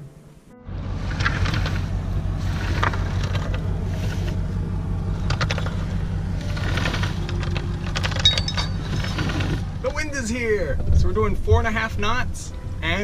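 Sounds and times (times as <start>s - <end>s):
boat motor droning: 0.6s - 11.6s.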